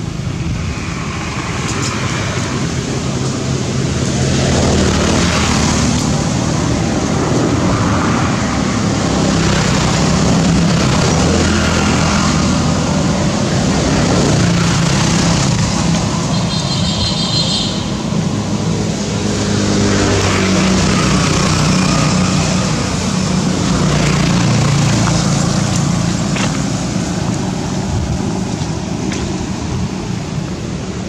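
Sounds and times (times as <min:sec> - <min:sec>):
low mechanical engine drone: 0:00.0 - 0:31.0.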